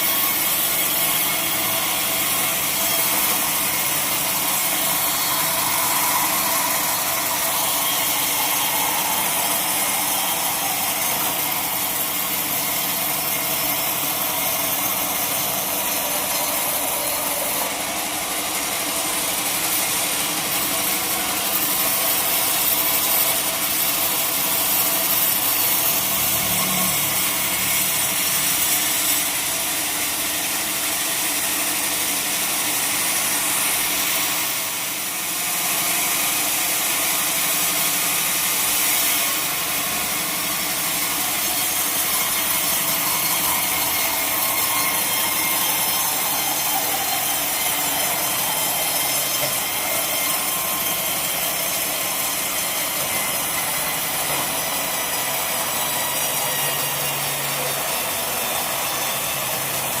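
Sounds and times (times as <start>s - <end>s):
saw cutting through log: 0.0s - 60.0s.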